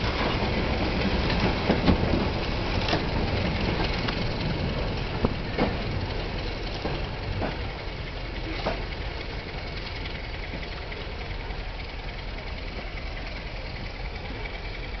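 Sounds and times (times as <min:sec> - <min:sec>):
train clank: 0:00.0 - 0:15.0
train wheels rumbling on rails: 0:00.0 - 0:15.0.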